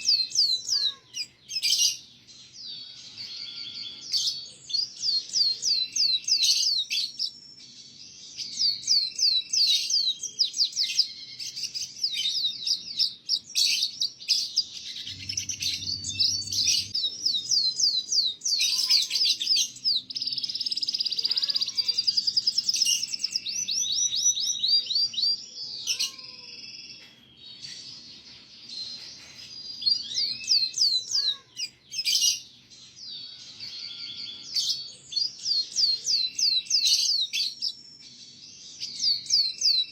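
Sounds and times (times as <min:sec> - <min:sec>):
canary singing chirps and trills: 0:00.0 - 0:39.9.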